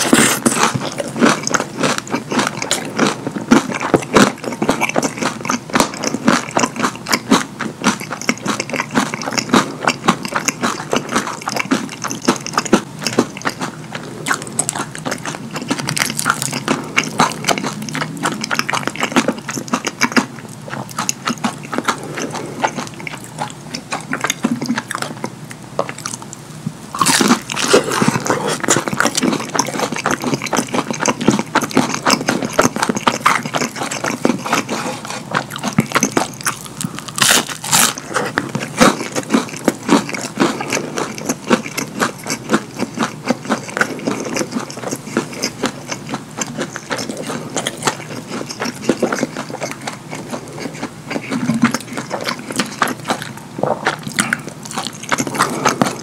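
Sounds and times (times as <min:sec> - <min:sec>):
wet chewing and lip-smacking: 0:00.0 - 0:56.0.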